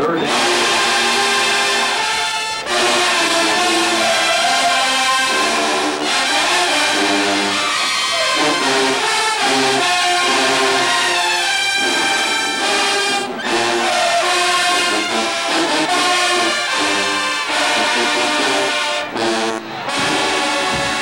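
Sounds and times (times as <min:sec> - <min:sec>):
marching band brass playing: 0:00.0 - 0:21.0.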